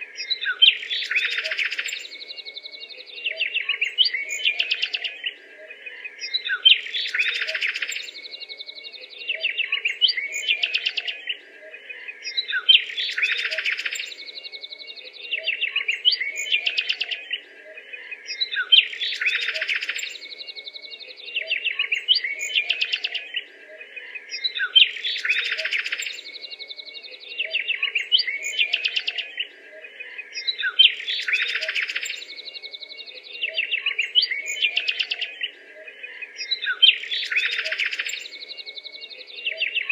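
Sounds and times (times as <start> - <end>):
birdsong chirps and trills: 0.0 - 39.9.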